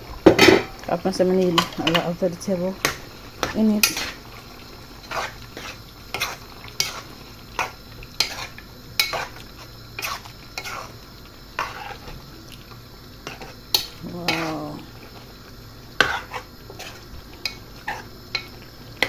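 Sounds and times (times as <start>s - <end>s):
utensil stirring food in pot: 0.2s - 19.0s.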